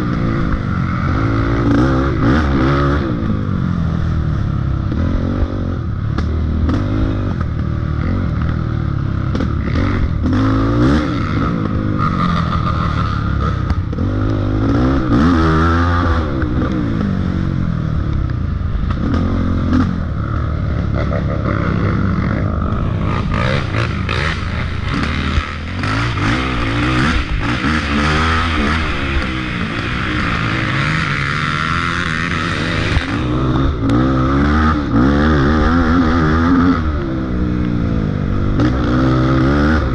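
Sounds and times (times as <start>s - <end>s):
dirt bike engine revving: 0.0s - 17.9s, 18.7s - 39.9s.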